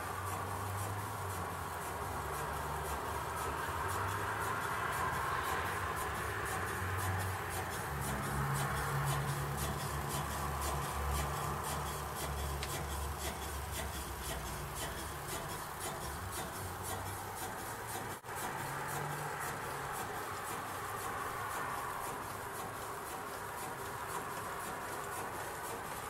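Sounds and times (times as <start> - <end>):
hot air engine ticking: 0.0 - 26.0.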